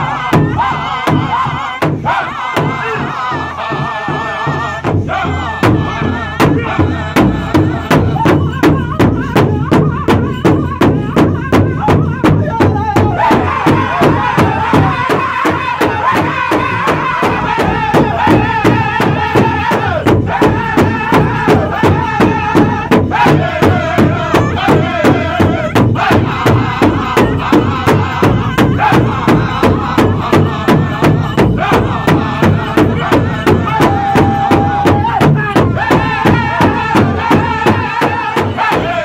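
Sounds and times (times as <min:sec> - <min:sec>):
group singing: 0:00.0 - 0:39.0
large drum beating in unison: 0:00.0 - 0:39.0.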